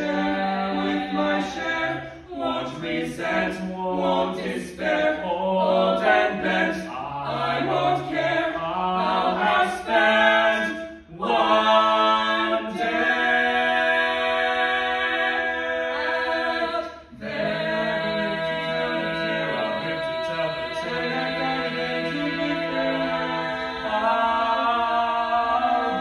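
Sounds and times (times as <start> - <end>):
male vocal quartet singing: 0.0 - 26.0.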